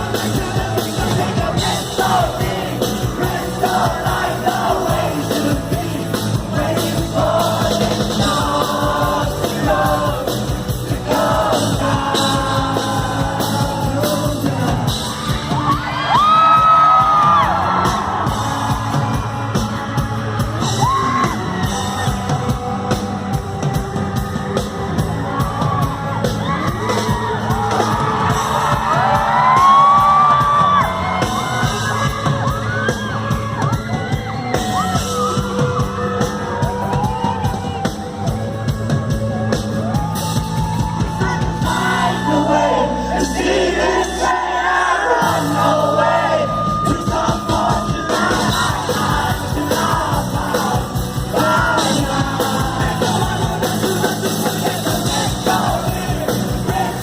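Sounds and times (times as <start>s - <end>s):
live rock band playing: 0.0s - 44.3s, 45.1s - 57.0s
audience screaming and singing along: 0.0s - 57.0s.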